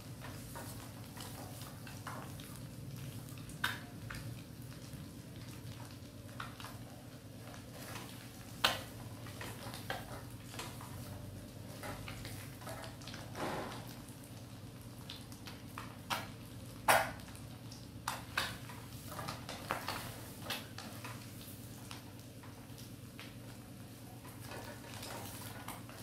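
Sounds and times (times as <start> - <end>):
eggs sizzling in oil: 0.0 - 26.0.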